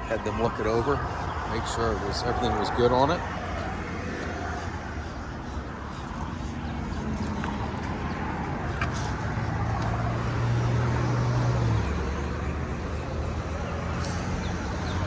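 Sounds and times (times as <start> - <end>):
low engine drone: 0.0 - 15.0
road traffic going by: 0.0 - 15.0.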